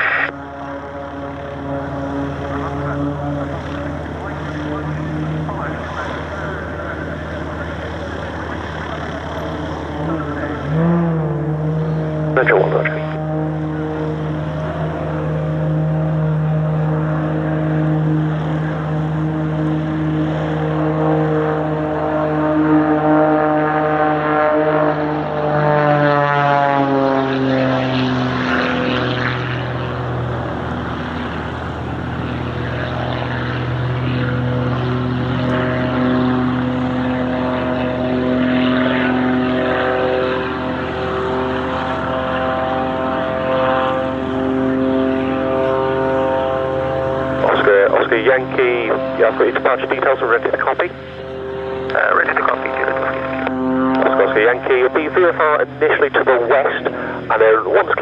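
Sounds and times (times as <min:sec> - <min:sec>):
propeller aircraft flying past: 0:00.0 - 0:58.0.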